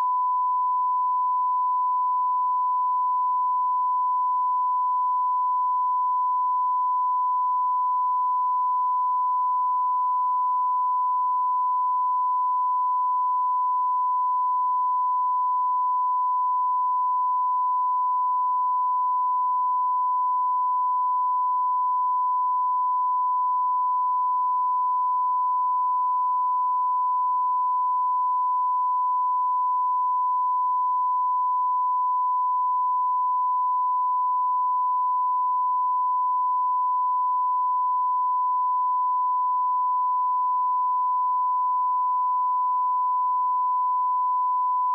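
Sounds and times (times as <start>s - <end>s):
sine-wave test tone: 0.0s - 44.9s.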